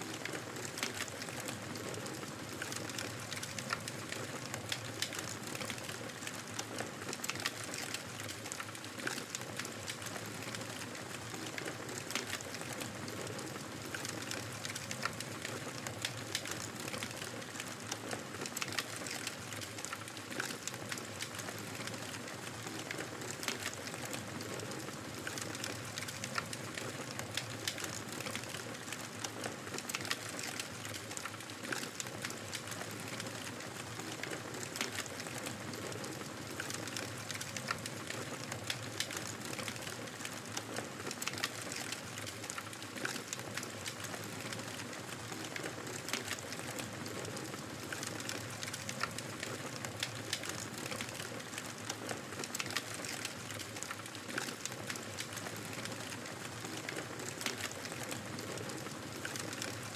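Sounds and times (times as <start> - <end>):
fire crackling and popping: 0.2 - 59.9.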